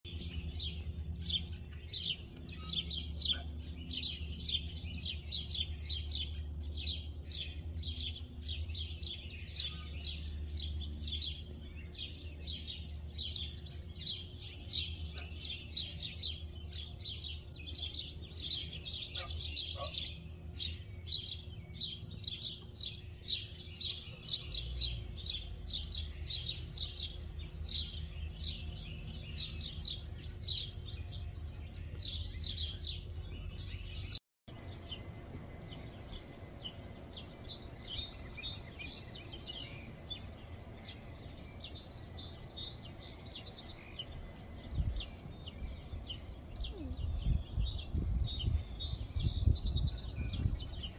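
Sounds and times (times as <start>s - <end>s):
fledgling bird begging chirps: 0.1s - 50.9s
low steady rumble: 0.1s - 50.9s.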